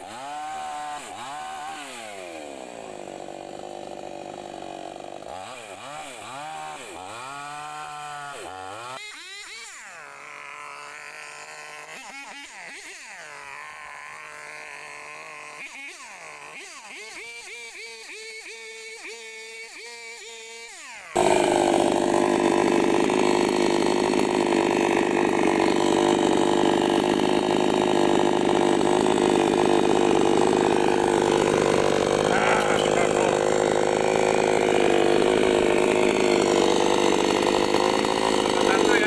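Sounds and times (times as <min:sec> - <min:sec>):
chainsaw cutting: 0:00.0 - 0:39.0.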